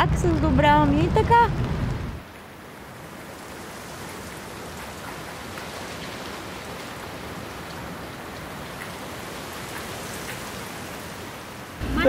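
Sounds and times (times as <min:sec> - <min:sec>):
rain falling on leaves: 0:01.0 - 0:11.8.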